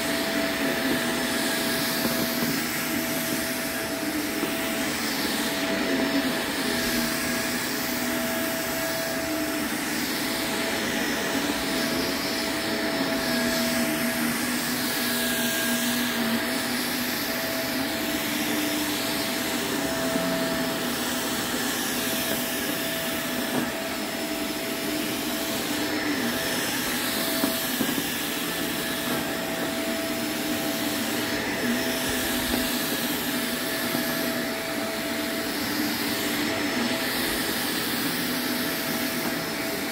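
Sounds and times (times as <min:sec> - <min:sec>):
vacuum cleaner on rug: 0:00.0 - 0:39.9.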